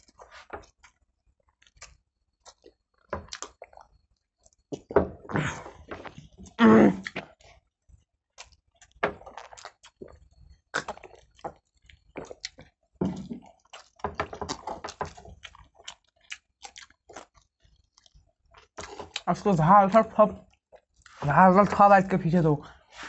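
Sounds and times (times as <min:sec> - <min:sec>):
chewing and wet mouth smacks: 0:00.0 - 0:04.9, 0:05.8 - 0:19.3, 0:20.5 - 0:21.2.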